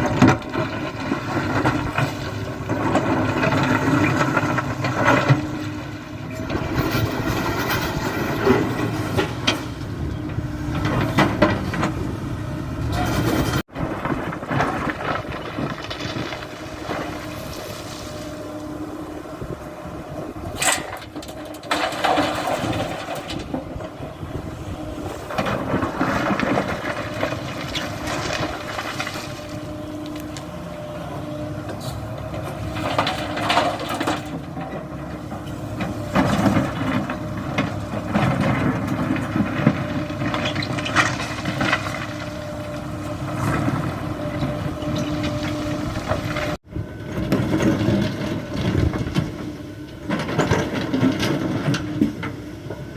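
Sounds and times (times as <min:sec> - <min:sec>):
bucket scraping and clunking soil: 0:00.0 - 0:52.9
excavator diesel engine: 0:00.0 - 0:52.9.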